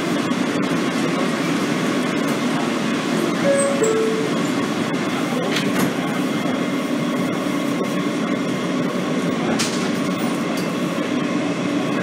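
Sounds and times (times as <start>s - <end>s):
subway car running rumble: 0.0s - 12.0s.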